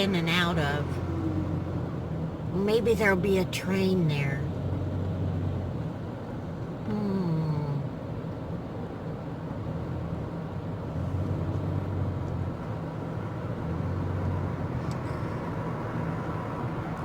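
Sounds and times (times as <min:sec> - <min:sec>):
road noise hiss: 0:00.0 - 0:17.0
van engine hum: 0:00.0 - 0:17.0.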